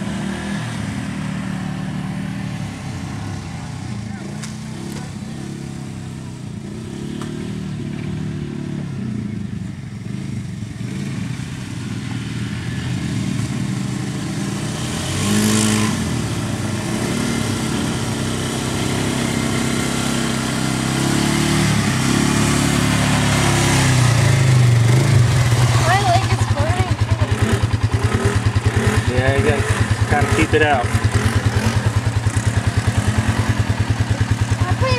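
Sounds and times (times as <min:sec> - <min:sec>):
atv engine revving: 0:00.0 - 0:34.9.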